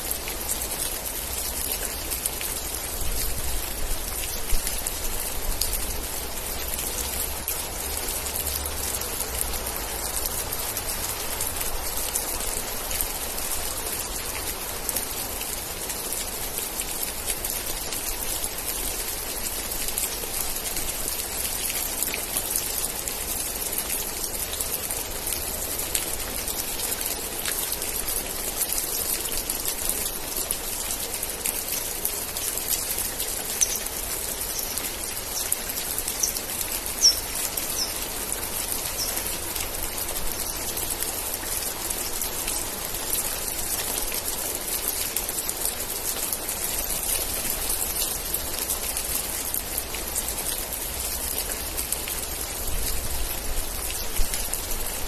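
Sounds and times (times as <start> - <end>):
steady rain with ticking drops: 0.0 - 55.0.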